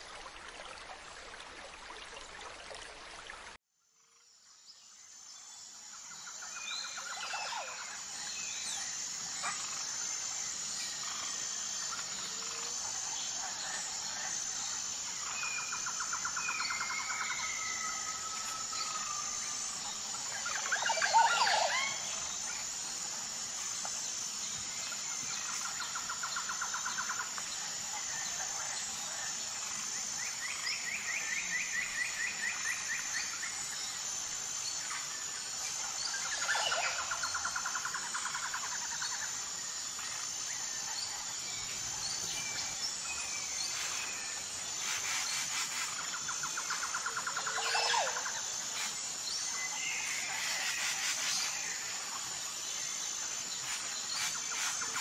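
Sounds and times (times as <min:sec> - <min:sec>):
high insect chorus: 0:03.2 - 0:55.0.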